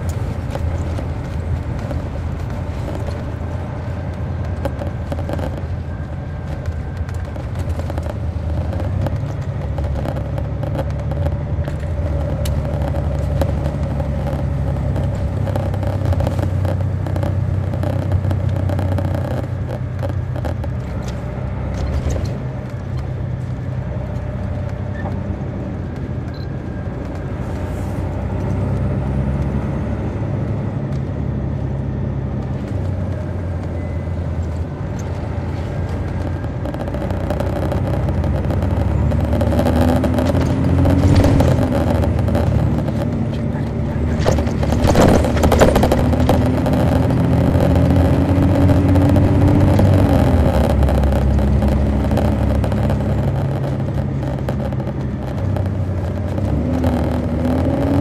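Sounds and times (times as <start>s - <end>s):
diesel coach engine droning: 0.0s - 58.0s.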